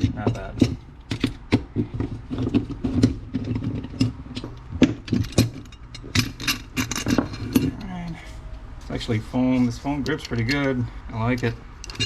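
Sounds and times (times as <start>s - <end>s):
sharp clicks and knocks of tools: 0.0s - 7.9s, 10.0s - 12.0s.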